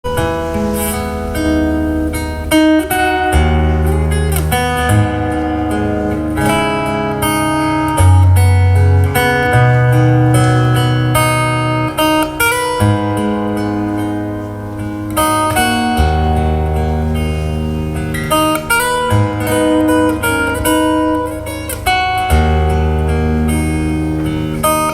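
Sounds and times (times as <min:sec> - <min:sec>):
acoustic guitar music with bass: 0:00.0 - 0:24.9.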